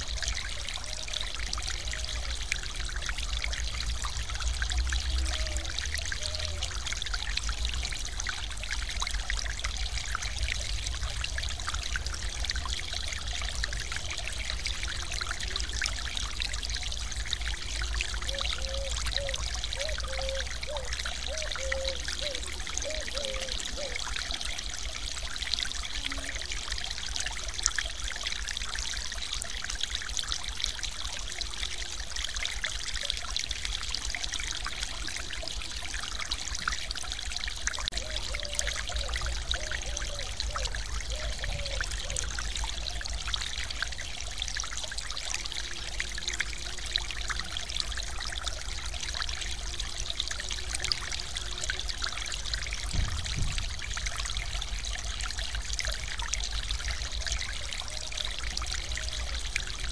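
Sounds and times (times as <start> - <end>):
water spilling over a weir: 0.0 - 59.9.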